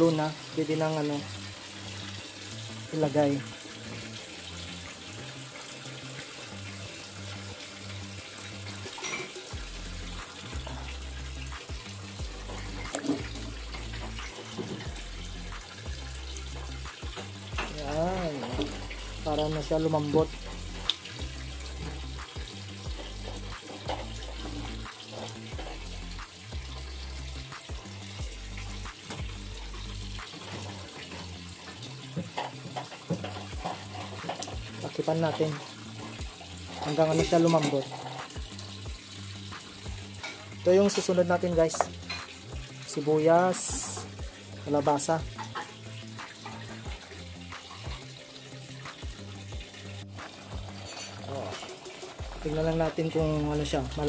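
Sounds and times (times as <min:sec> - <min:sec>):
water boiling in a pot: 0:00.0 - 0:54.0.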